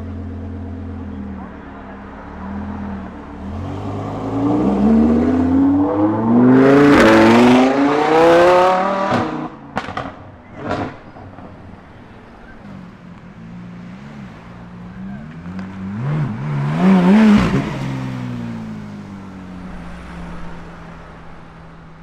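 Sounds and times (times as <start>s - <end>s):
car engine accelerating hard: 0.0s - 11.0s, 13.6s - 22.0s.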